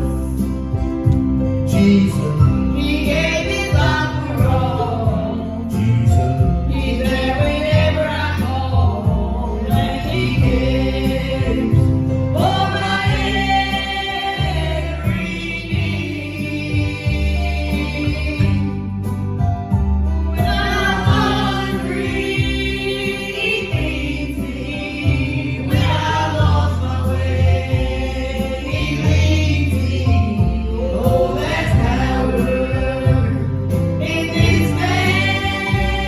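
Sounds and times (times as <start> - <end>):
group singing gospel song: 0.0 - 19.5, 20.2 - 36.0
instrumental accompaniment: 0.0 - 36.0
low bass line: 0.0 - 36.0.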